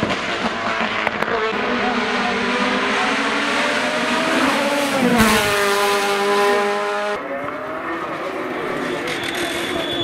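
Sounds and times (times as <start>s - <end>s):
race car engine at high revs: 0.0s - 9.8s.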